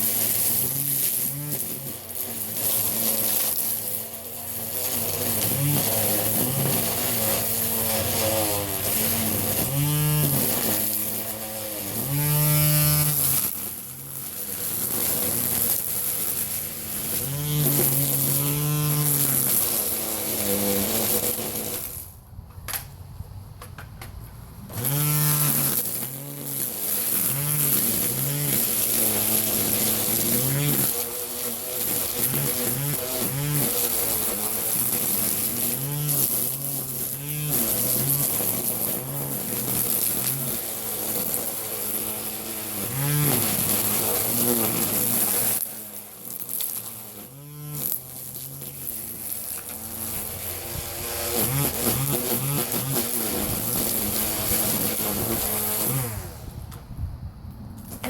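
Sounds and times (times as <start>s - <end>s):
string trimmer motor whirring: 0.0s - 58.0s.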